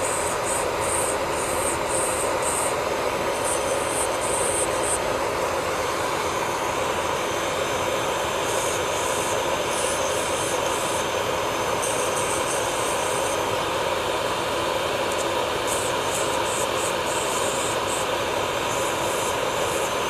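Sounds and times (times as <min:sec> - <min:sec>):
drill bit grinding on nail: 0:00.0 - 0:20.0
electric nail drill whining: 0:00.0 - 0:20.0.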